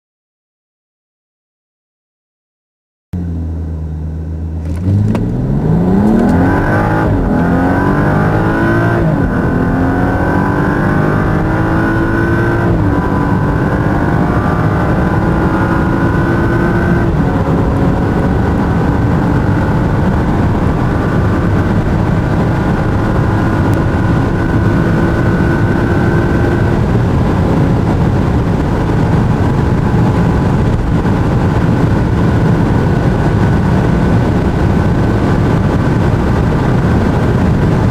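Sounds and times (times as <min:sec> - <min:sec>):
car engine accelerating: 0:03.2 - 0:37.9
wind and tyre noise: 0:03.2 - 0:37.9.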